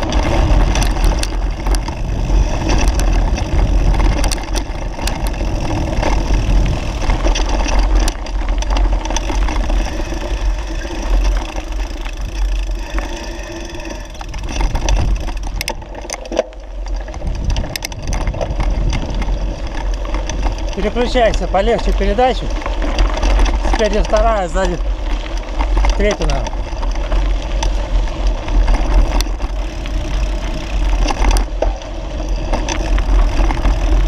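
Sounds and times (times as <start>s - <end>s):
bicycle frame rattling: 0.0s - 34.0s
wind rumble on microphone: 0.0s - 34.0s.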